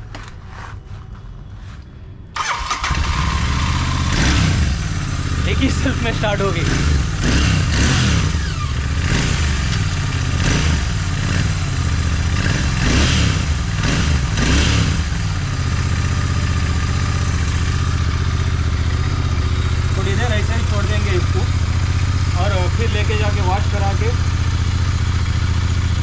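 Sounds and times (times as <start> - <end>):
motorcycle engine revving and idling: 2.4 - 26.0.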